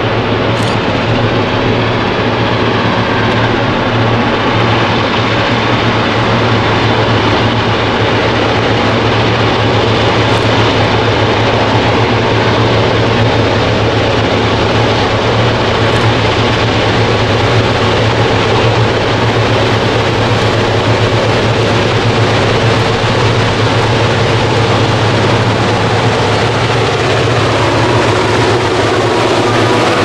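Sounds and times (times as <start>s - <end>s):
diesel locomotive engines droning: 0.0s - 30.0s.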